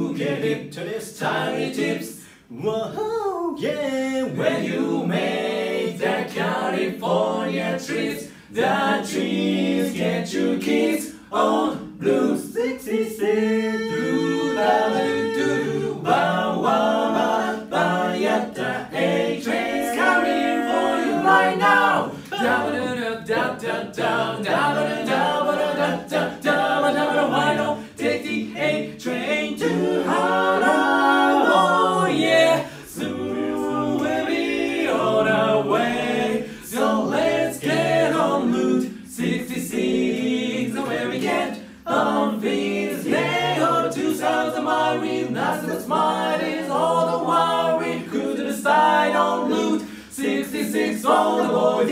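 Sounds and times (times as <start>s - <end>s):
male voices singing in harmony: 0.0s - 3.0s, 3.7s - 51.9s.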